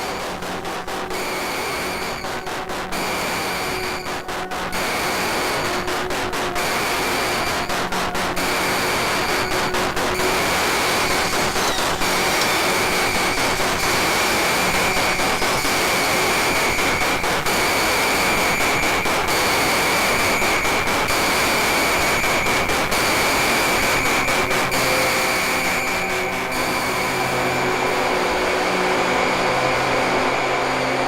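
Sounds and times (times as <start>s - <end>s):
crackles: 0.0s - 27.2s.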